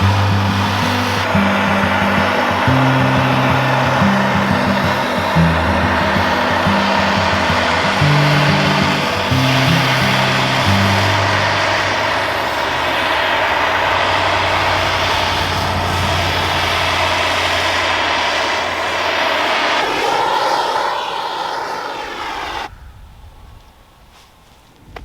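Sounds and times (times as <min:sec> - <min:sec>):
loud engine running: 0:00.0 - 0:22.7.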